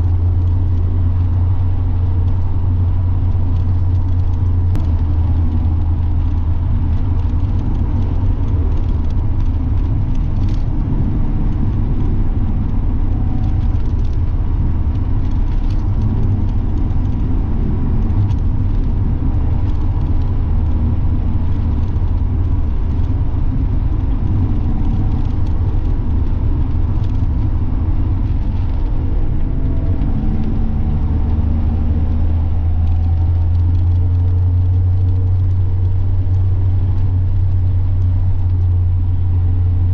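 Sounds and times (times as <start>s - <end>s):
car engine droning: 0.0s - 39.9s
tyre and road noise: 0.0s - 39.9s.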